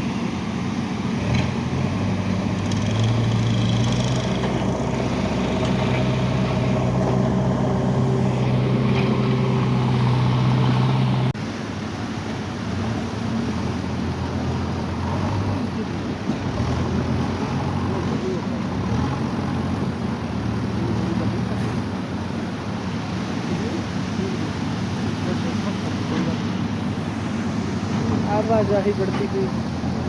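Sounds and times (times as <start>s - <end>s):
traffic rumble: 0.0s - 30.0s
vehicle engine humming: 0.0s - 30.0s.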